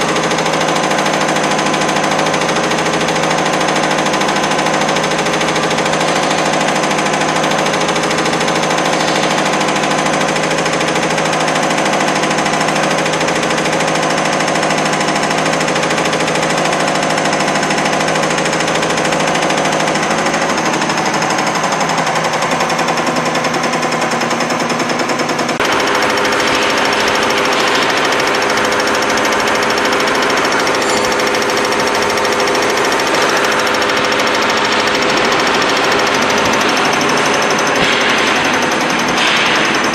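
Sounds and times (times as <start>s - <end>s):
test bench mechanical clatter: 0.0s - 39.9s.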